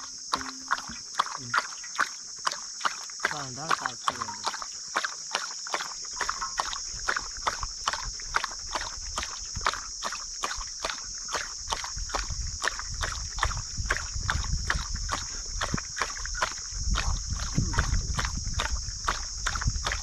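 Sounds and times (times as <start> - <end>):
dog lapping water: 0.0 - 20.0.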